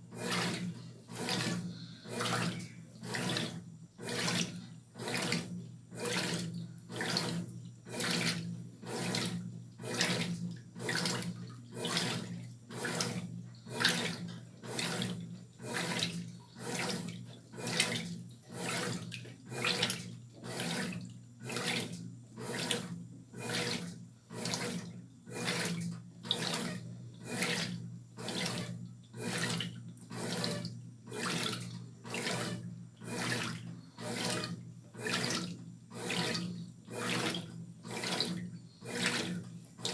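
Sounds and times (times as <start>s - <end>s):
washing machine motor hum: 0.0s - 39.9s
water swishing in washing machine: 0.0s - 39.9s.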